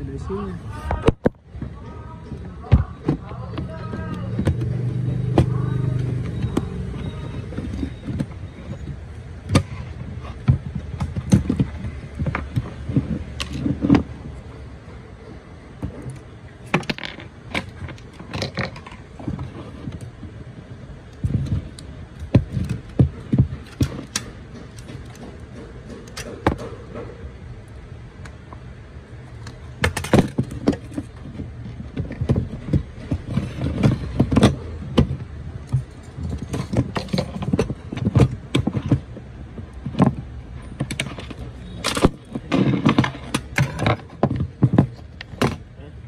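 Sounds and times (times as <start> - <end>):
plastic parts clicking and knocking: 0.9 - 14.5, 15.2 - 45.8.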